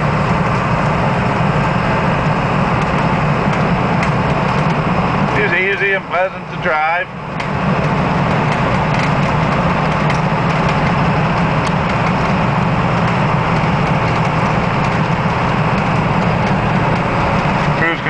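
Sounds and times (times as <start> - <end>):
diesel engine drone: 0.0 - 18.0
road noise: 0.0 - 18.0.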